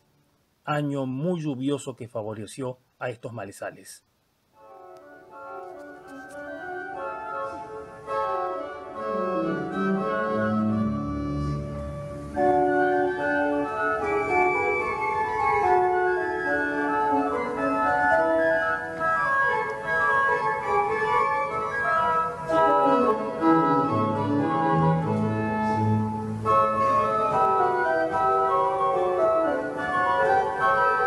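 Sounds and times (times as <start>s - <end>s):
organ music: 4.6s - 31.0s.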